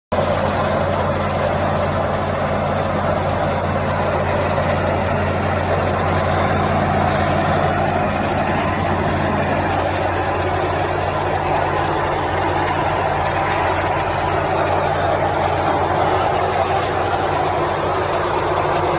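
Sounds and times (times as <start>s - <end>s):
diesel engine running: 0.1s - 18.9s.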